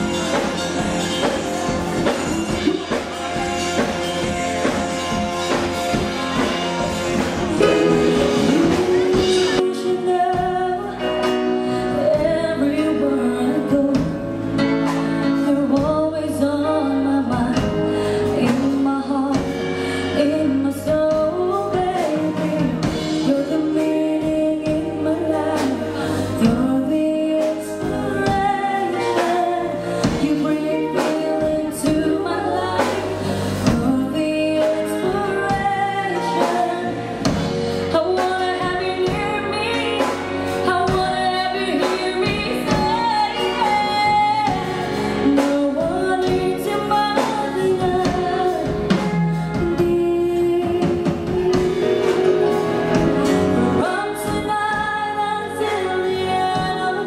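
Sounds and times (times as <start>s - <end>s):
drum kit beat: 0.0s - 12.9s, 17.3s - 57.0s
electric bass: 0.0s - 57.0s
keyboards: 0.0s - 57.0s
women singing lead: 5.5s - 14.5s, 15.4s - 57.0s.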